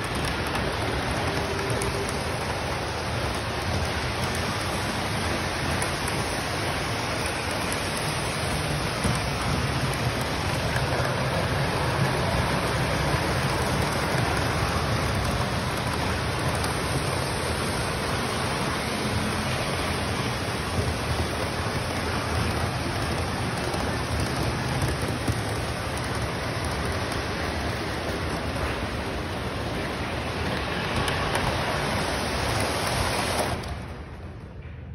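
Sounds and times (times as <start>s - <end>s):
model trains rumbling on metal track: 0.0s - 34.9s.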